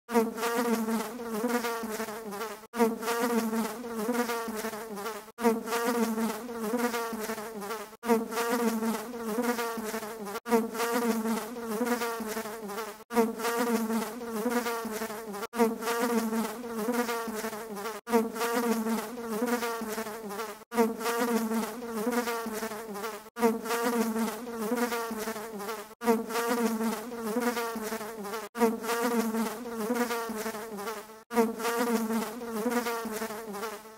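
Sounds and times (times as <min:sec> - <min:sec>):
insect-like buzzing drone: 0:00.1 - 0:33.9.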